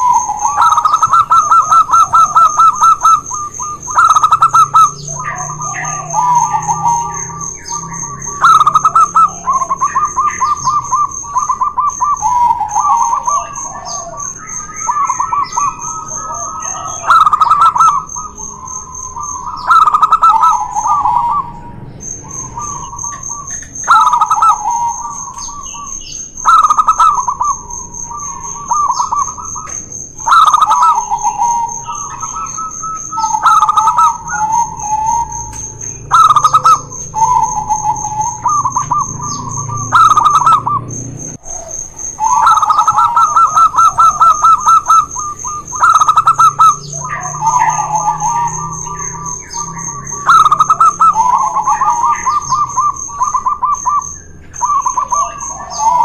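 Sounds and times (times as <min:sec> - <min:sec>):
doves cooing: 0:00.0 - 0:56.0
steady high-pitched tone: 0:00.0 - 0:56.0.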